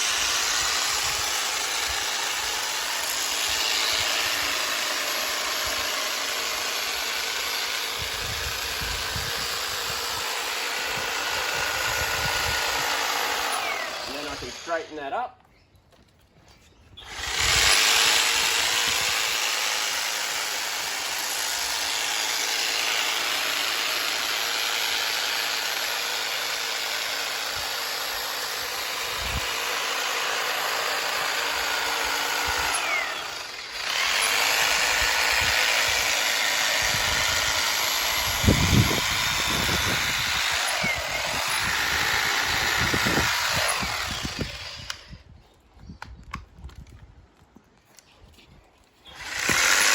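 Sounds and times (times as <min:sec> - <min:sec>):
hedge trimmer cutting hedge: 0:00.0 - 0:15.3, 0:17.0 - 0:45.3, 0:49.0 - 0:49.9.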